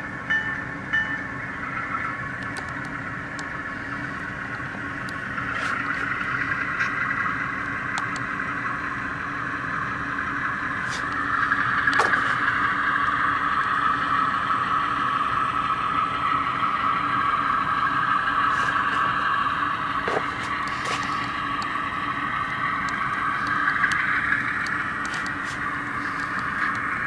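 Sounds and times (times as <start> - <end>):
diesel engine sound from small speaker: 0.0 - 27.0.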